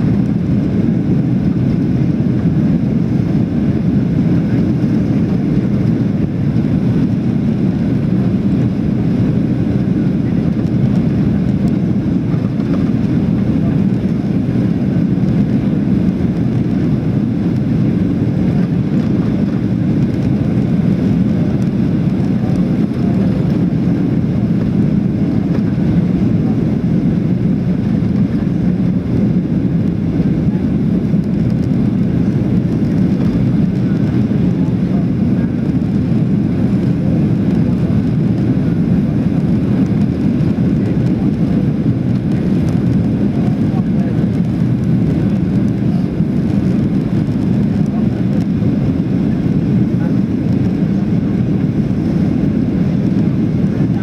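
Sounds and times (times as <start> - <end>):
airplane cabin engine rush: 0.0 - 54.0.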